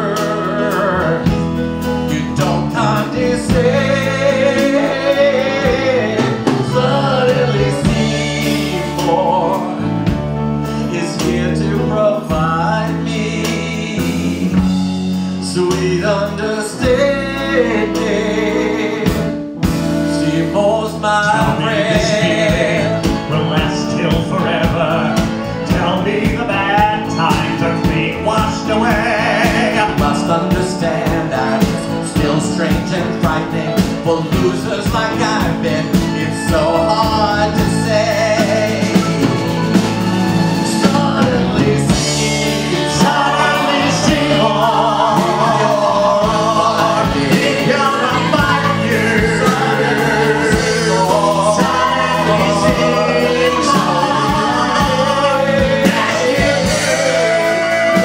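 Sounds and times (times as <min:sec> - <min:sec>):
bass: 0:00.0 - 0:58.0
drums: 0:00.0 - 0:58.0
electric guitar: 0:00.0 - 0:58.0
keyboard: 0:00.0 - 0:58.0
man singing: 0:00.0 - 0:58.0
violin: 0:00.0 - 0:58.0.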